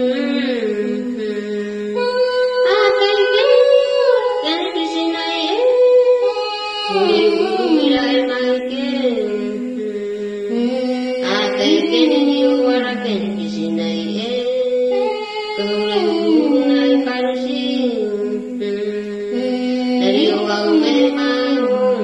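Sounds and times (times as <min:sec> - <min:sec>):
chant-like singing: 0:00.0 - 0:22.0.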